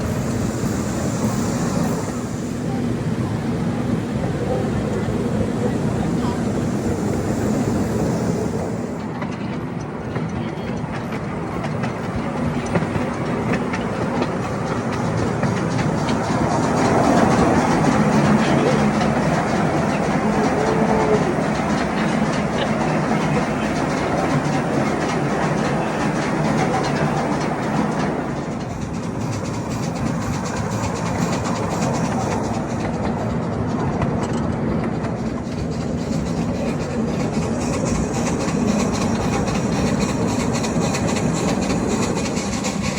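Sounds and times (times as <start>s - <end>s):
rail joint clicks: 0.0s - 42.9s
train wheels rumbling on rail: 0.0s - 42.9s.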